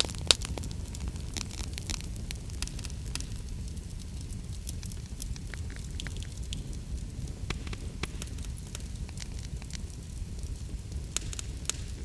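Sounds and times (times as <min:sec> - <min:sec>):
fireplace crackling: 0:00.0 - 0:12.0.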